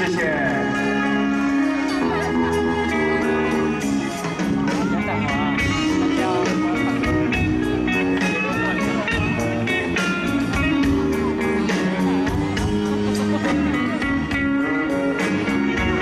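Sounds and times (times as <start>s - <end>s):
held chords: 0.0s - 16.0s
lead guitar bending notes: 0.0s - 16.0s.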